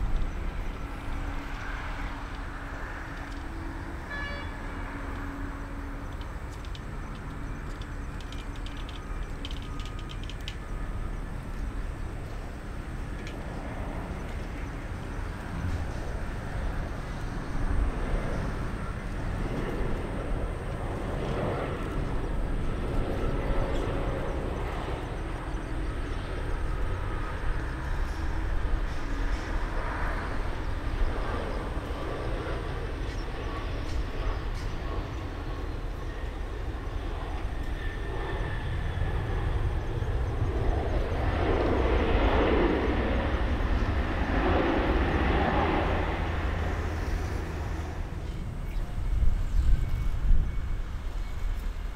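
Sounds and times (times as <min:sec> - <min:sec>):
jet engines rumble and hiss: 0:00.0 - 0:51.9.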